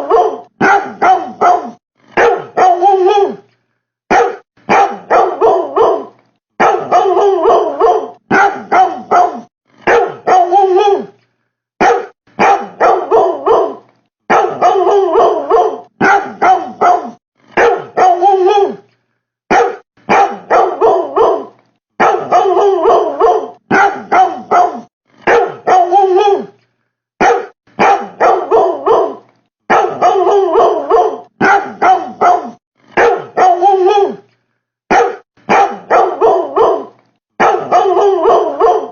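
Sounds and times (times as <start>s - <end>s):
dog barking: 0.0s - 3.4s, 4.1s - 11.1s, 11.8s - 18.8s, 19.5s - 26.5s, 27.2s - 34.2s, 34.9s - 38.9s.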